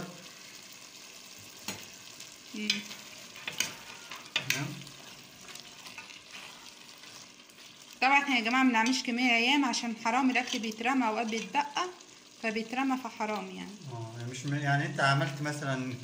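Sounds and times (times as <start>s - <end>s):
sizzling hiss: 0.0s - 16.0s.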